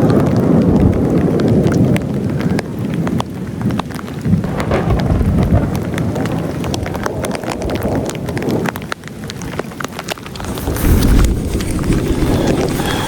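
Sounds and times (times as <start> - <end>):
rain: 0.0 - 13.0
raindrops tapping close by: 0.0 - 13.0
wind buffeting microphone: 0.0 - 13.0.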